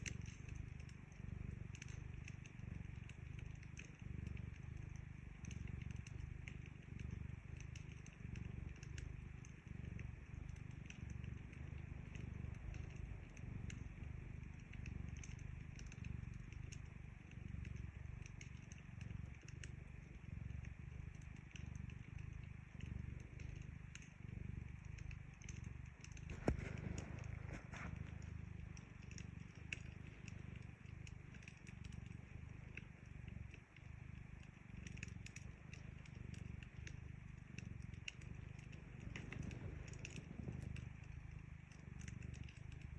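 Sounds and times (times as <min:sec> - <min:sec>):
cat purring: 0:00.0 - 0:42.9
wood fire crackling: 0:00.0 - 0:42.9.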